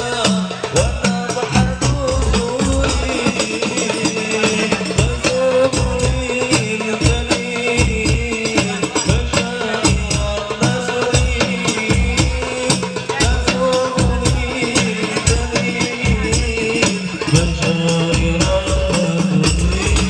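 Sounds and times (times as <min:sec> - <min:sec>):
deep frame drum strokes: 0:00.0 - 0:20.0.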